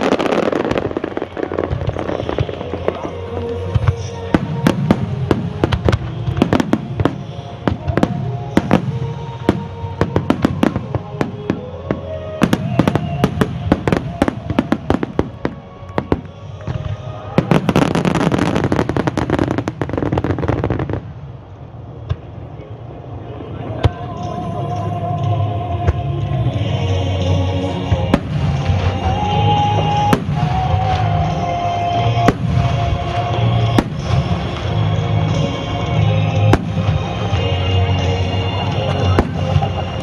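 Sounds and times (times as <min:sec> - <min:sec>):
music playing: 0:00.0 - 0:21.8, 0:22.8 - 0:40.0.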